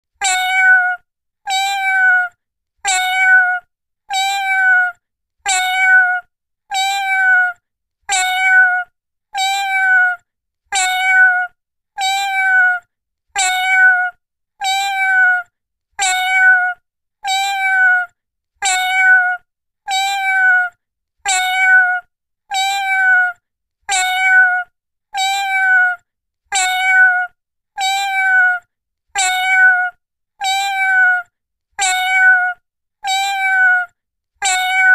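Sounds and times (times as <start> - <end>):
cat meowing: 0.2 - 34.9.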